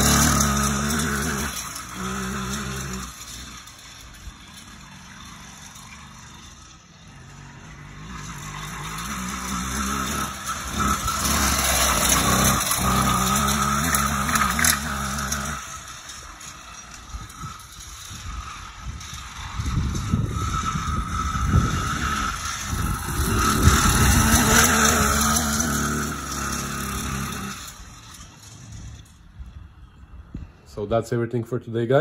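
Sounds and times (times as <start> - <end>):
two-stroke bicycle engine running: 0.0 - 30.0.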